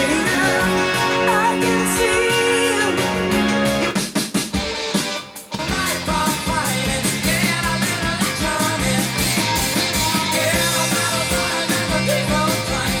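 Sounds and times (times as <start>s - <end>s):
person singing: 0.0s - 3.7s, 5.6s - 13.0s
rock song with drums and guitar: 0.0s - 13.0s.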